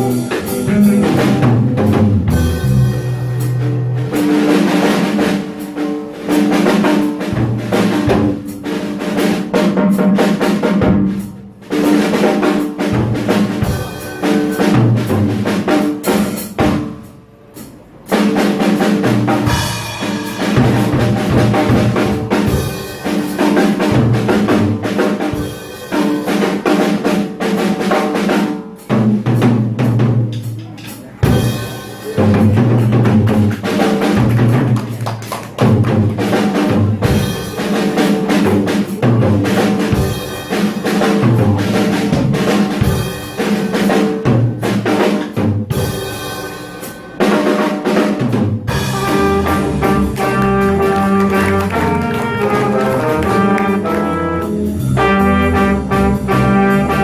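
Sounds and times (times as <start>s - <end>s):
drum kit: 0.0s - 57.0s
small jazz combo playing: 0.0s - 57.0s.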